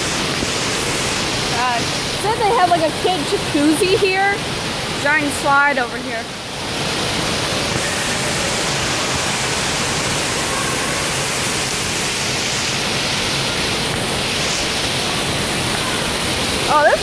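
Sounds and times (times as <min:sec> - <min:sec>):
water rushing and splashing: 0:00.0 - 0:17.0.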